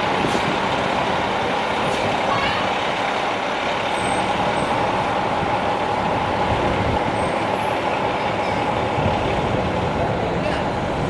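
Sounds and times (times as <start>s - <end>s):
bus engines and traffic: 0.0s - 11.0s.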